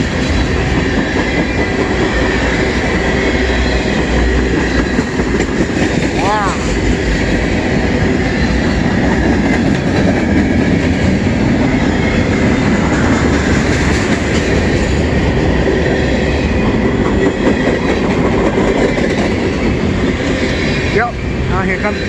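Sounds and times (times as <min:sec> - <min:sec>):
freight train rumbling past: 0:00.0 - 0:22.0
steel wheels clattering on rails: 0:00.0 - 0:22.0.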